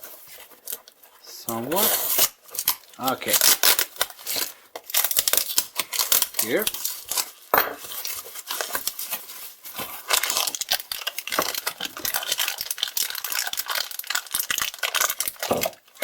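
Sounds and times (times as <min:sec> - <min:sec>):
packaging crinkling and tearing: 0:00.0 - 0:16.0.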